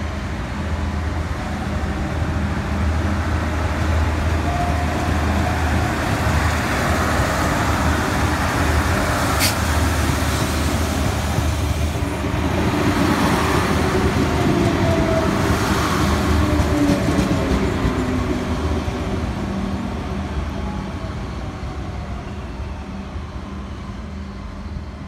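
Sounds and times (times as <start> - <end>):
train wheel noise: 0.0 - 20.8
diesel railcar passing: 0.0 - 25.0.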